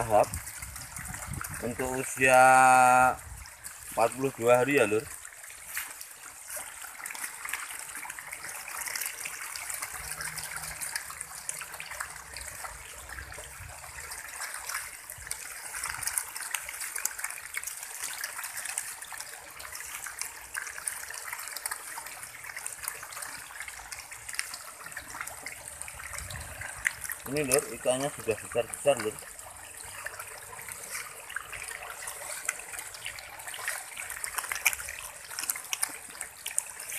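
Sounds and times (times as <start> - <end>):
fish splashing at water surface: 0.0 - 36.9.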